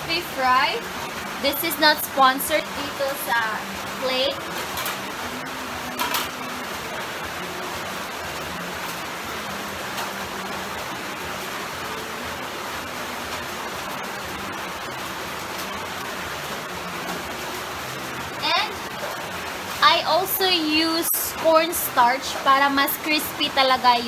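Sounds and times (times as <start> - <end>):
steady rushing hiss: 0.0 - 24.0.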